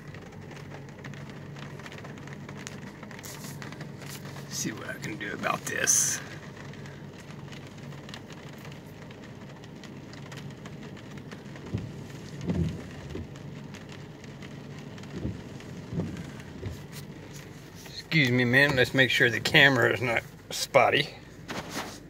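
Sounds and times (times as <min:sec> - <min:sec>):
low rumbles: 0:00.0 - 0:21.6
rain pattering on car roof: 0:00.0 - 0:22.0.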